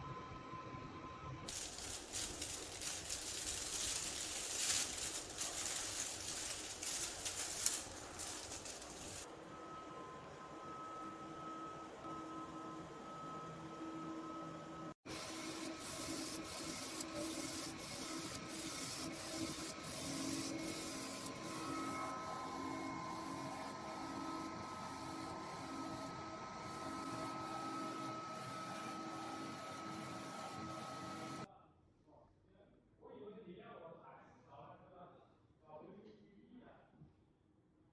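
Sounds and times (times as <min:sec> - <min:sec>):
printer carriage motor whine: 0:00.0 - 0:31.5.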